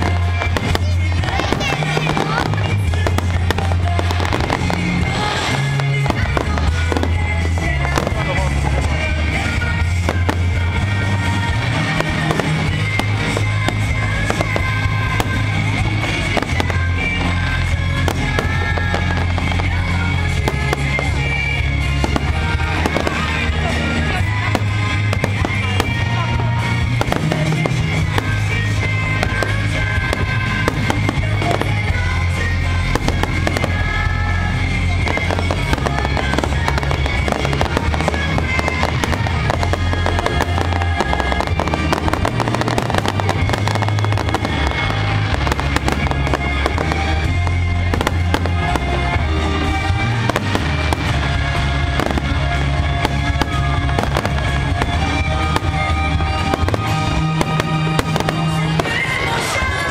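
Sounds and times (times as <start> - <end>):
fireworks bursting: 0.0 - 59.9
music with bass line: 0.0 - 59.9.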